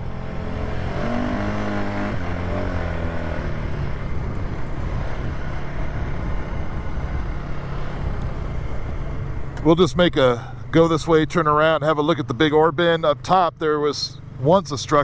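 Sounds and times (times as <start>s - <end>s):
atv engine rumbling: 0.0s - 15.0s.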